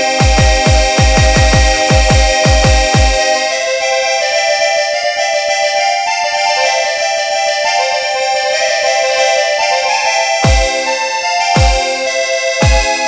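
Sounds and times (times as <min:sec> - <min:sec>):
electronic music: 0:00.0 - 0:13.0.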